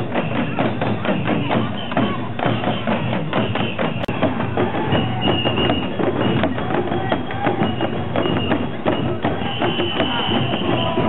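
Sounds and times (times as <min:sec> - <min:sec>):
crowd voices: 0:00.0 - 0:11.0
fan drums beaten: 0:00.0 - 0:11.0.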